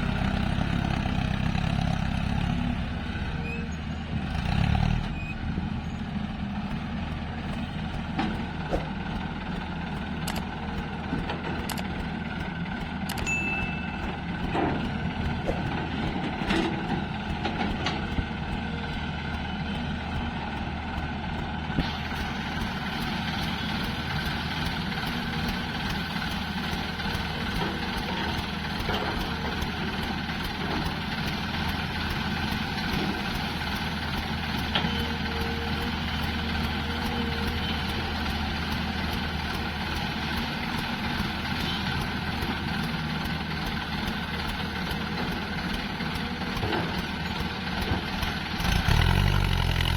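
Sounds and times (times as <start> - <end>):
diesel engines humming: 0.0 - 49.9.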